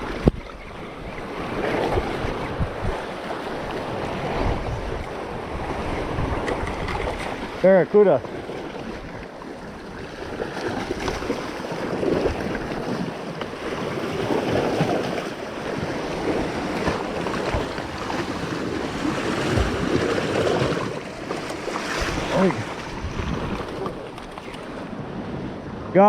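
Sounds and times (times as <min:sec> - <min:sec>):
wind buffeting microphone: 0:00.0 - 0:07.6, 0:08.3 - 0:26.0
sea water washing and lapping: 0:00.0 - 0:25.9.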